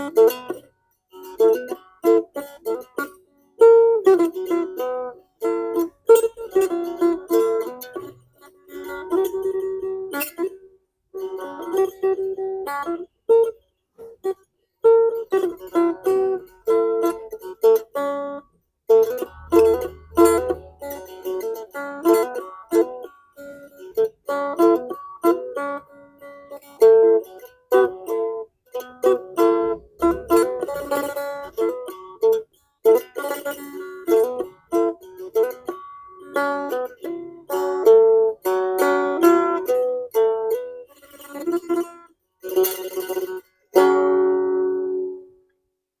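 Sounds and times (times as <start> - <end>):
plucked lute melody: 0.0 - 45.7.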